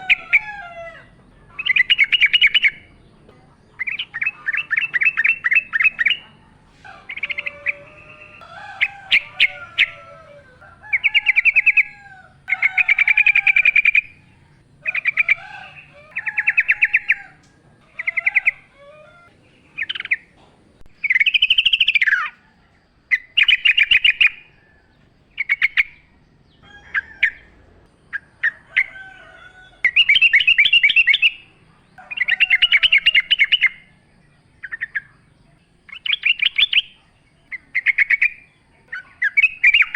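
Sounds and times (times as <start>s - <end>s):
low bird warbling: 0.0s - 22.5s, 23.1s - 39.9s
bird chattering song: 1.2s - 29.1s, 29.8s - 39.9s.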